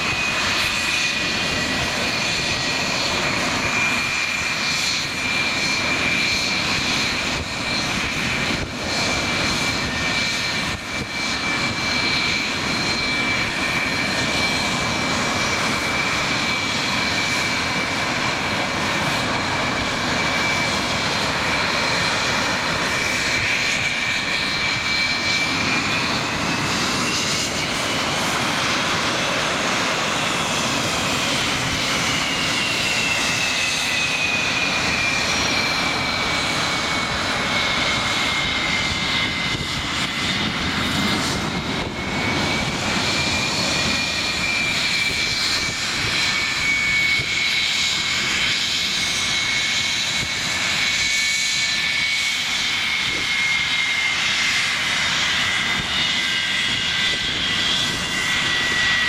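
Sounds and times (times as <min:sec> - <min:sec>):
jet engines idling with whine: 0:00.0 - 0:59.0.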